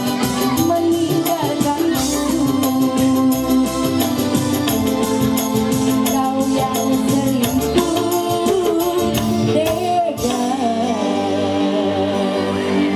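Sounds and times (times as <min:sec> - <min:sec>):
steady beat: 0:00.0 - 0:10.9
person singing a melody: 0:00.0 - 0:12.9.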